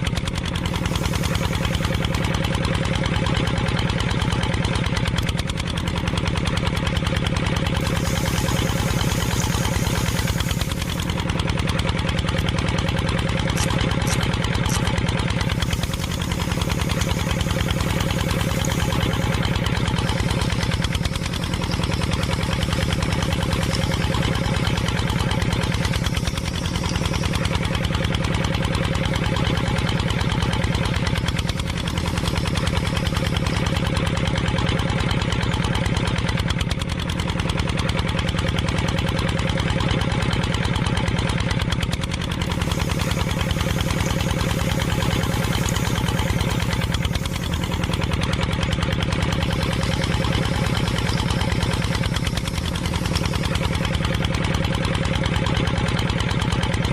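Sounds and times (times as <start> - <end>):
engine knocking steadily: 0.0 - 56.9.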